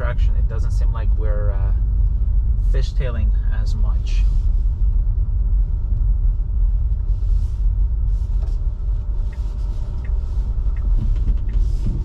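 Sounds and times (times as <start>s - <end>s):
tyres rumbling on snowy road: 0.0s - 12.0s.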